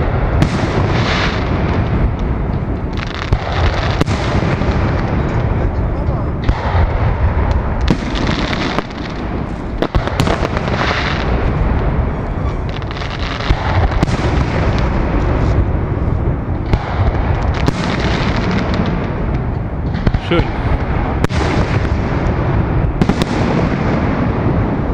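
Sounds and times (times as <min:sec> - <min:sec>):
fireworks deep booms: 0:00.0 - 0:24.9
fireworks sharp cracks and bangs: 0:00.0 - 0:24.9.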